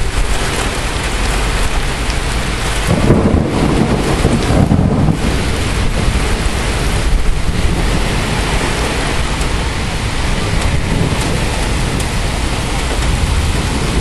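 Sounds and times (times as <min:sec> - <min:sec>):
continuous low rumble: 0:00.0 - 0:14.0
heavy rain pouring: 0:00.0 - 0:14.0.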